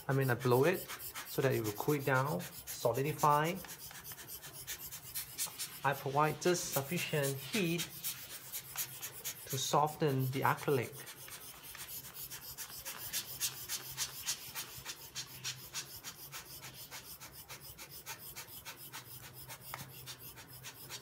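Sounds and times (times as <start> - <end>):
hand tool scraping acrylic: 0.0 - 21.0.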